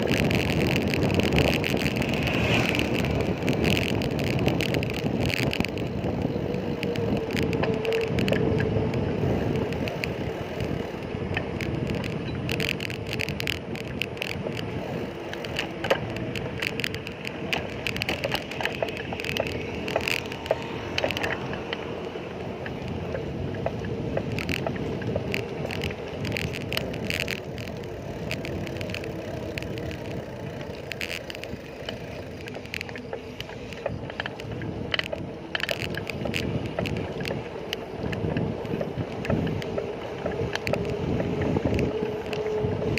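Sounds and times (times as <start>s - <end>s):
bicycle tyres rumbling: 0.0s - 42.9s
clicks and rattles: 0.0s - 42.9s
wind on microphone: 0.0s - 42.9s.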